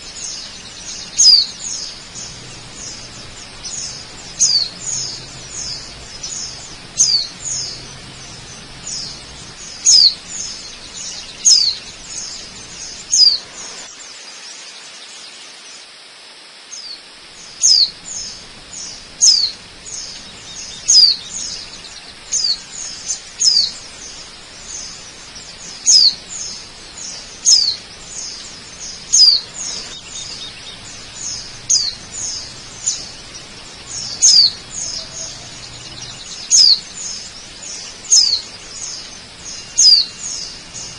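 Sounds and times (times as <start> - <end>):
falling water hiss: 0.0 - 40.9
small birds chirping: 0.0 - 40.9.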